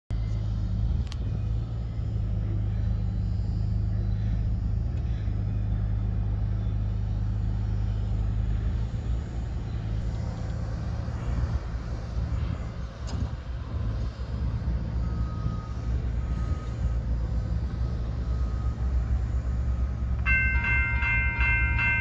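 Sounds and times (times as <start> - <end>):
idling motor hum: 0.1 - 22.0.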